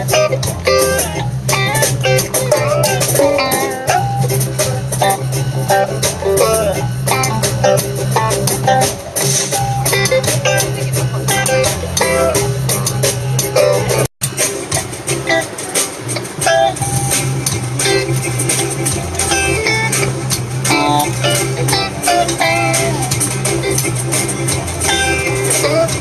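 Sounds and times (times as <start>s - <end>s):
drum kit: 0.0s - 26.0s
guitar: 0.0s - 26.0s
plucked double bass: 0.0s - 26.0s.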